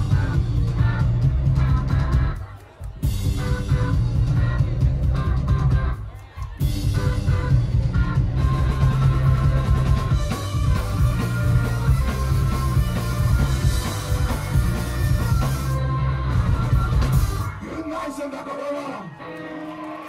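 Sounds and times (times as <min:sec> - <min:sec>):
drum kit: 0:00.0 - 0:17.6
bass guitar: 0:00.0 - 0:17.7
electric guitar: 0:00.0 - 0:17.7, 0:19.0 - 0:20.0.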